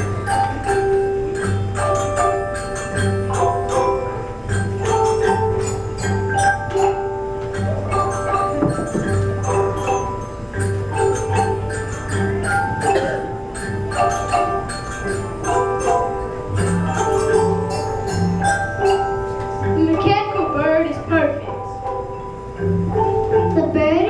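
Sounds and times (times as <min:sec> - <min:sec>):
mallet percussion ensemble playing: 0:00.0 - 0:24.0.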